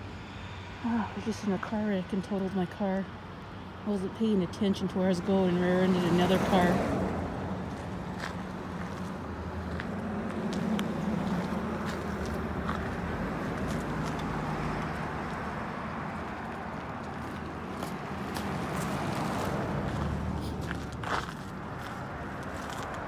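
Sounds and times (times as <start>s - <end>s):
vehicle engine hum: 0.0s - 23.0s.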